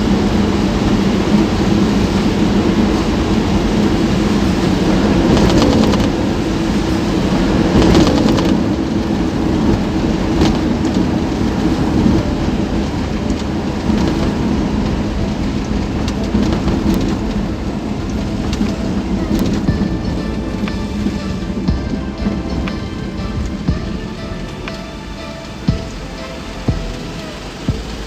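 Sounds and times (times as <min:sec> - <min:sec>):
vehicle rumbling in traffic: 0:00.0 - 0:28.0.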